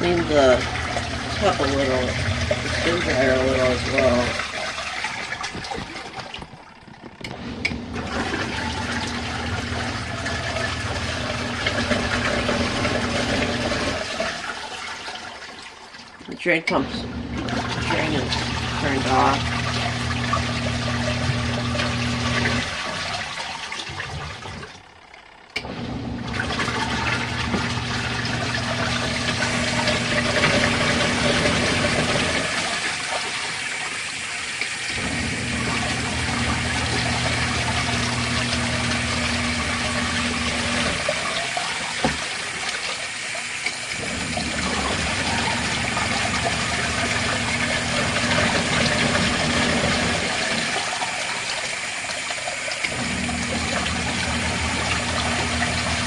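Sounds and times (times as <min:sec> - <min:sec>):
washing machine motor humming: 0:00.0 - 0:56.0
water churning in tub: 0:00.0 - 0:56.0.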